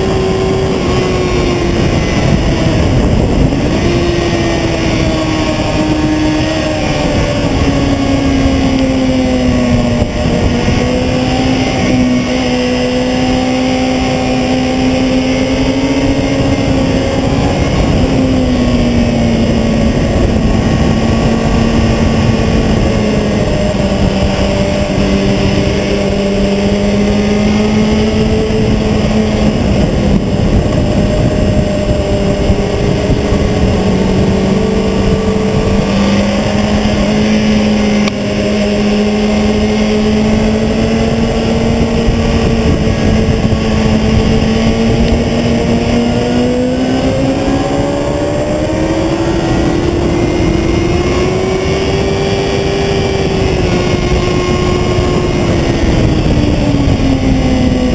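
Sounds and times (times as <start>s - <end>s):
motorcycle engine revving high: 0.0s - 57.9s
wind and road noise: 0.0s - 57.9s.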